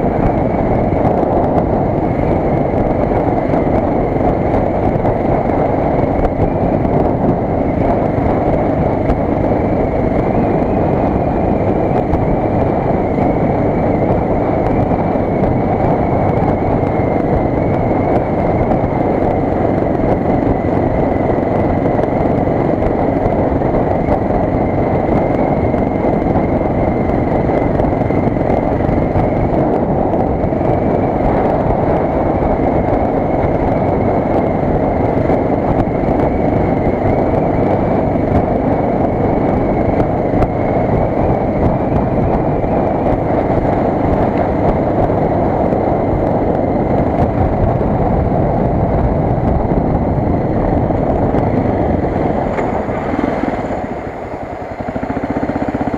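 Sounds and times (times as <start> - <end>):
motorcycle engine running: 0.0 - 55.9
wind noise on microphone: 0.0 - 55.9.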